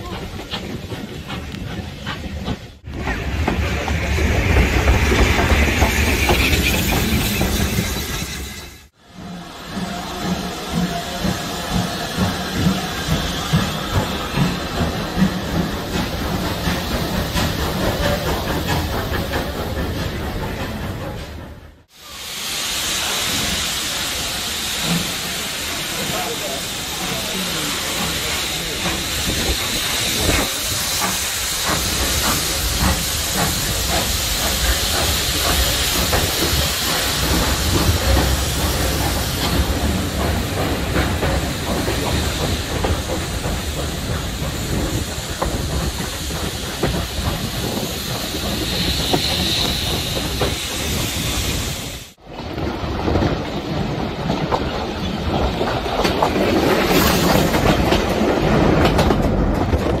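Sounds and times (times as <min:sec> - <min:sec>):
steam hissing from locomotive: 0:00.0 - 0:21.2, 0:21.8 - 0:52.2
train wheels clickety-clack: 0:00.0 - 0:21.9, 0:22.8 - 1:00.0
passing train carriages rushing: 0:00.0 - 1:00.0.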